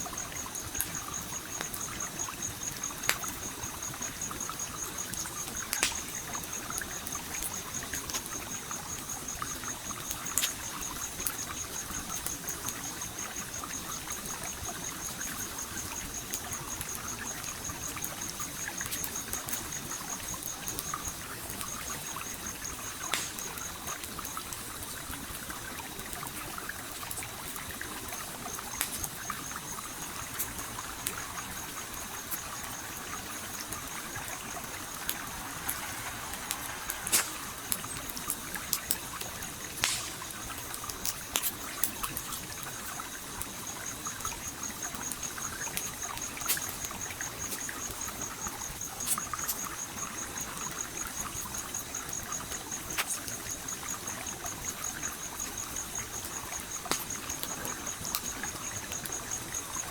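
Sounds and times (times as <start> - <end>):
campfire crackling: 0.0 - 59.9
insect trill: 0.0 - 59.9
stream trickling: 0.0 - 59.9.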